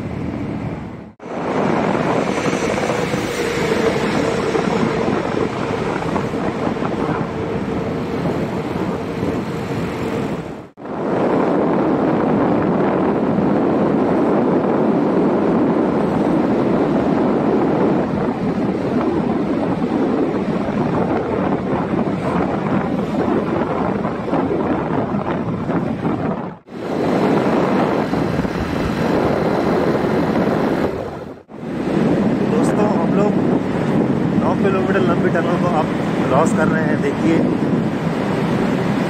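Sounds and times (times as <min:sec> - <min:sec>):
scooter wind and road noise in tunnel: 0:00.0 - 0:39.0.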